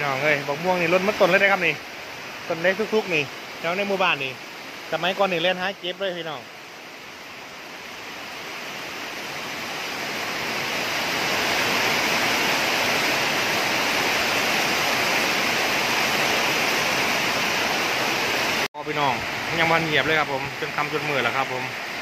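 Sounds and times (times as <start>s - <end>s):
heavy rain and wind rushing: 0.0s - 22.0s.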